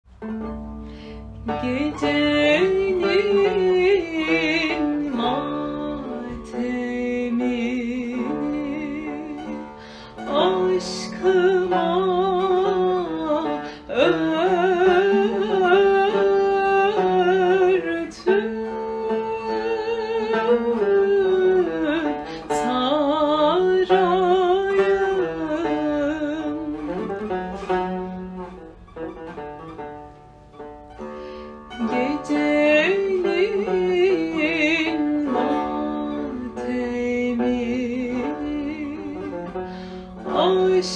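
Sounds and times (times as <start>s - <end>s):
plucked string accompaniment: 0.0s - 40.9s
woman singing with vibrato: 1.4s - 28.6s, 31.7s - 40.9s.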